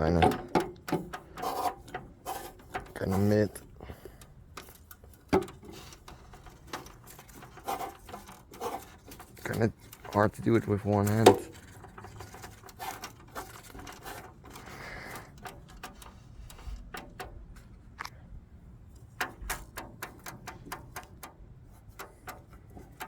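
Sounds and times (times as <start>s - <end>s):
bulb clicking and scraping in socket: 0.2s - 18.2s, 18.9s - 23.0s.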